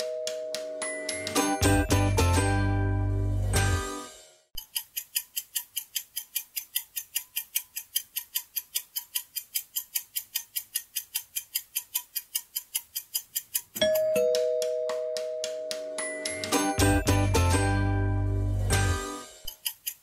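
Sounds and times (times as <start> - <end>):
clock ticking timer: 0.0 - 2.7, 3.6 - 20.0.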